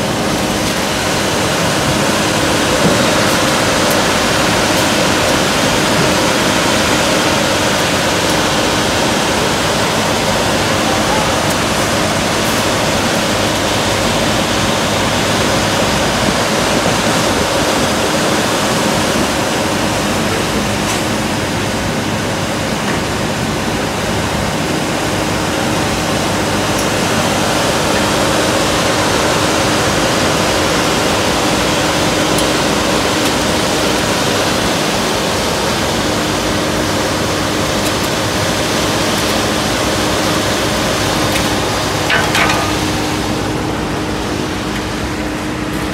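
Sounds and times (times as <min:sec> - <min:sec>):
paver diesel engine running: 0:00.0 - 0:45.9.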